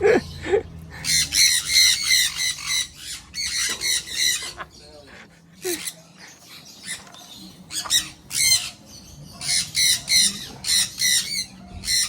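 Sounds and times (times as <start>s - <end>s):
parrot squawks: 1.0s - 4.8s, 5.6s - 12.0s.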